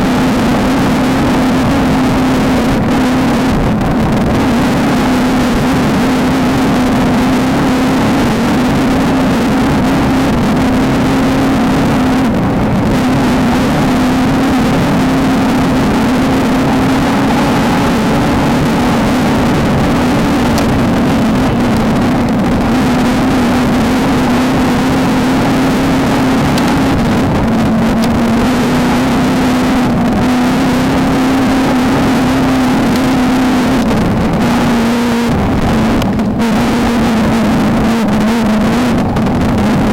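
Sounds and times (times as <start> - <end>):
race vehicle engine revving high: 0.0 - 39.9.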